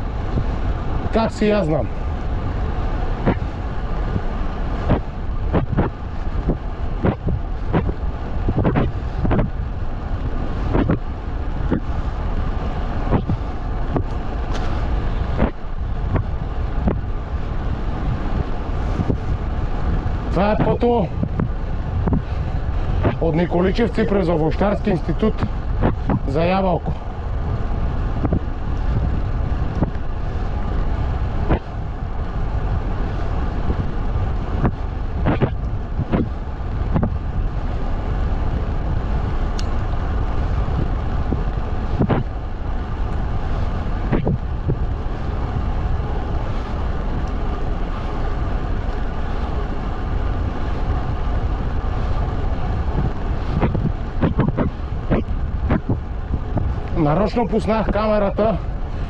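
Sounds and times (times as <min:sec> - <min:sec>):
tyres rolling on road: 0:00.0 - 0:59.0
wind rumble on microphone: 0:00.0 - 0:59.0.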